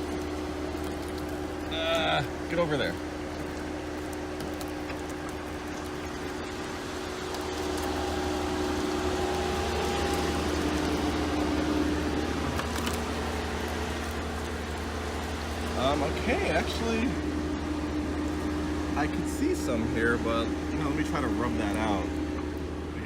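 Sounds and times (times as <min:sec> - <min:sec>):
garden hose spraying water: 0:00.0 - 0:23.0
steady low hum: 0:00.0 - 0:23.0.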